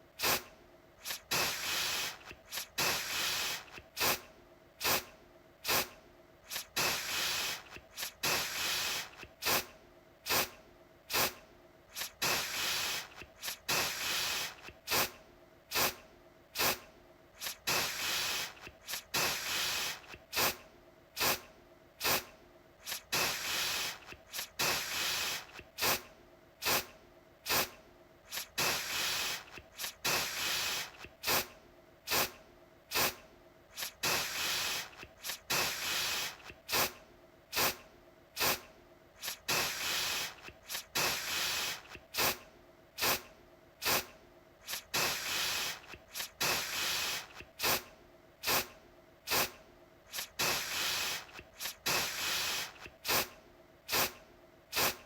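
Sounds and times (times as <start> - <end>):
aerosol can spraying: 0.2 - 9.7, 10.3 - 16.0, 16.6 - 16.8, 17.4 - 20.6, 21.2 - 31.5, 32.1 - 37.8, 38.4 - 42.4, 43.0 - 48.7, 49.3 - 55.0.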